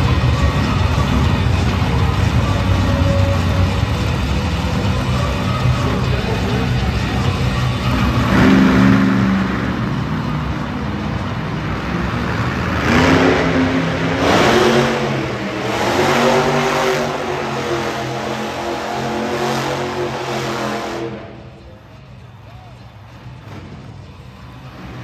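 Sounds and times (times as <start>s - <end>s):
monster truck engine revving: 0.0s - 21.8s, 23.1s - 25.0s.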